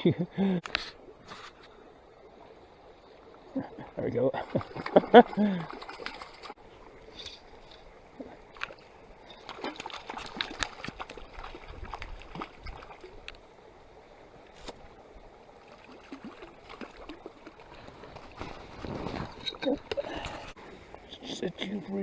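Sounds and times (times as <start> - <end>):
water splashing and trickling: 0.0 - 22.0.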